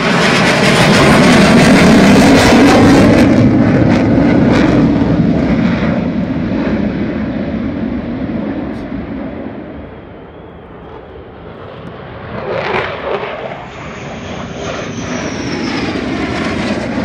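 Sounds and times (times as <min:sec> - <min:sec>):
fighter jet passing overhead: 0:00.0 - 0:17.0.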